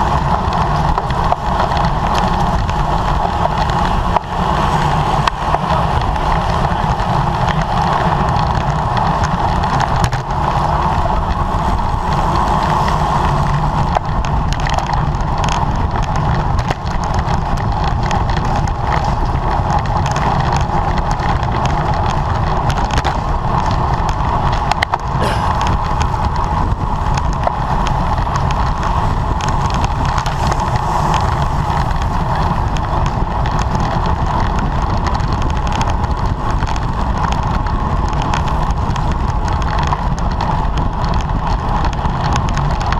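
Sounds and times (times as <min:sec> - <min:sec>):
tyre and road noise: 0:00.0 - 0:42.9
wind rush on microphone: 0:00.0 - 0:42.9.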